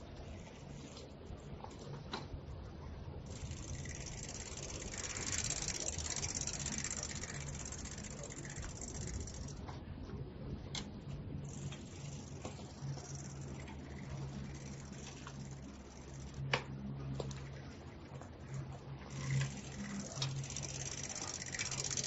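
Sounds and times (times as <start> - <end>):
bicycle chain and freewheel ratcheting: 0.1 - 1.1, 3.2 - 9.8, 11.4 - 22.0.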